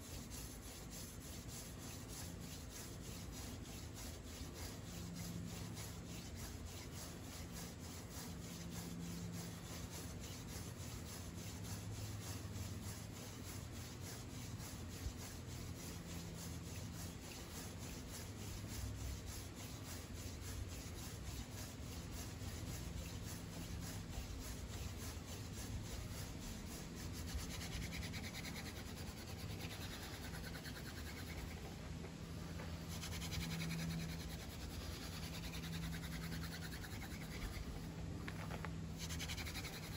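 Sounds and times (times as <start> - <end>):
wood rubbing on wood: 0.0 - 39.9.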